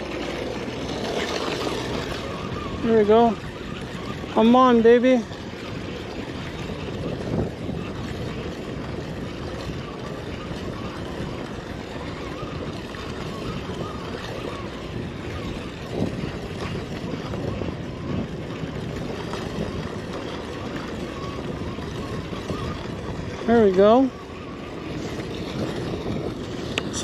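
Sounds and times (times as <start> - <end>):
water noise on boat deck: 0.0 - 27.0
wind on microphone: 0.0 - 27.0.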